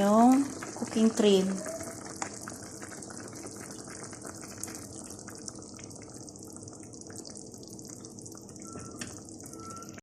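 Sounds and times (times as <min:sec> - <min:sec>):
food simmering in a pan: 0:00.0 - 0:10.0.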